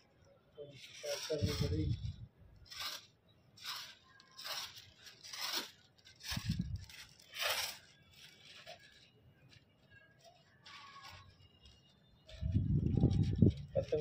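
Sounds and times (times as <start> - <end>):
kite string rasping: 0.6 - 14.0.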